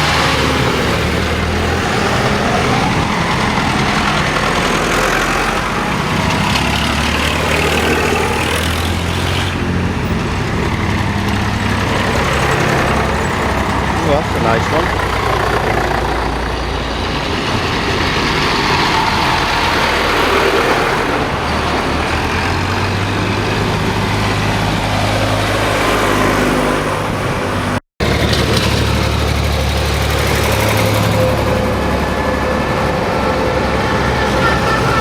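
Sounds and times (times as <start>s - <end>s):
diesel tractor engines droning: 0.0s - 35.0s.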